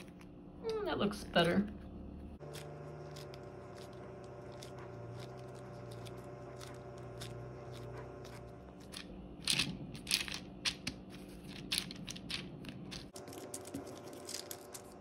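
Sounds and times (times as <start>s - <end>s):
faint steady hum: 0.0s - 15.0s
modelling clay squishing: 0.0s - 15.0s.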